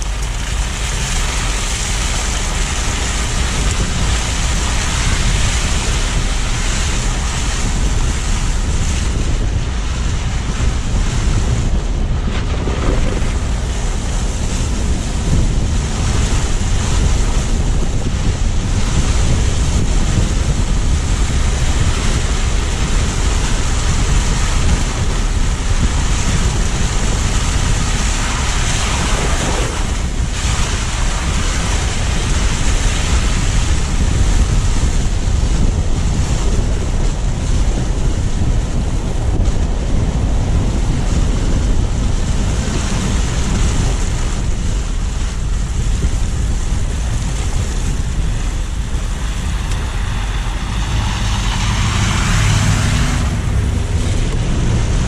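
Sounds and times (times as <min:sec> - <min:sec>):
deep rumble: 0:00.0 - 0:55.0
tyres on snowy road: 0:00.0 - 0:55.0
wind buffeting microphone: 0:00.0 - 0:55.0.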